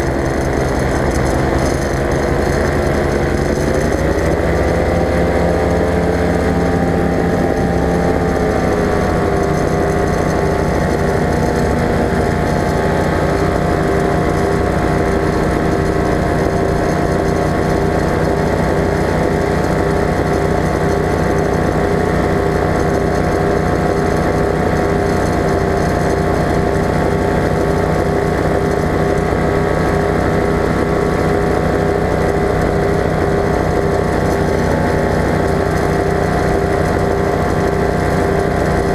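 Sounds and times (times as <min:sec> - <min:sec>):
ultralight aircraft engine running: 0:00.0 - 0:38.9.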